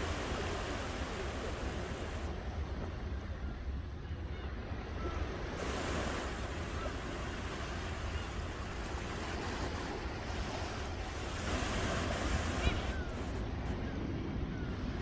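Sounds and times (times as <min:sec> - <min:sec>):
ocean waves breaking on shore: 0:00.0 - 0:15.0.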